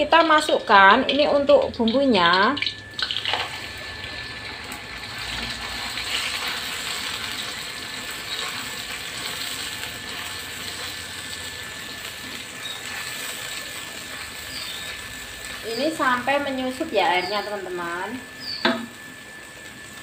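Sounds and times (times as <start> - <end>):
spice paste sizzling in oil: 1.2 - 20.0.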